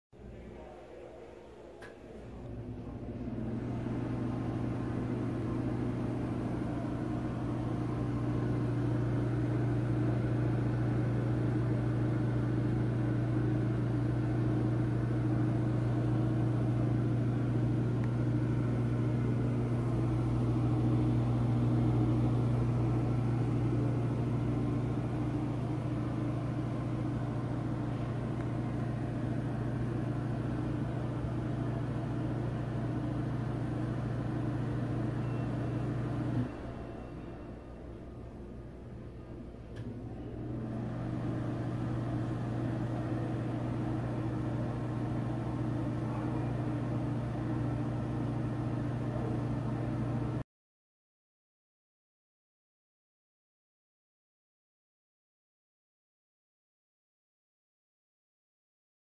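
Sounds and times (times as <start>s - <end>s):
exhaust fan humming: 0.2s - 50.4s.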